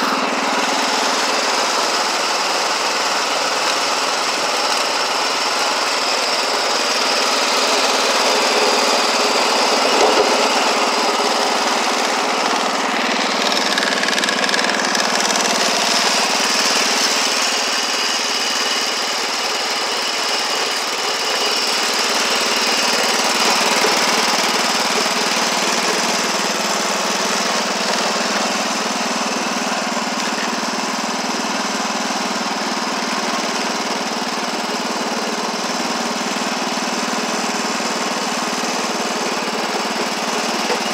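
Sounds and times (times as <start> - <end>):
garden tractor engine running: 0.0 - 40.9.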